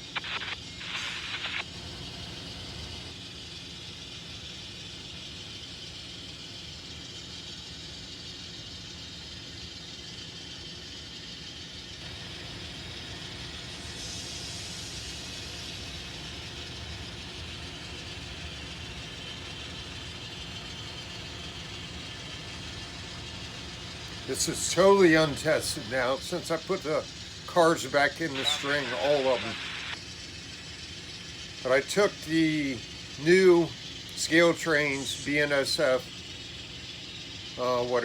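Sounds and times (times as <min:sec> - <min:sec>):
wheels hissing on rails: 0:00.0 - 0:38.0
model train motor whir: 0:02.8 - 0:38.0.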